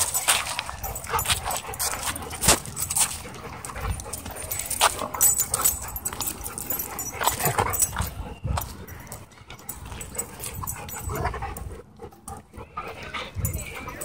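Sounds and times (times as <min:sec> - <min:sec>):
dogs playing: 0:00.0 - 0:14.0.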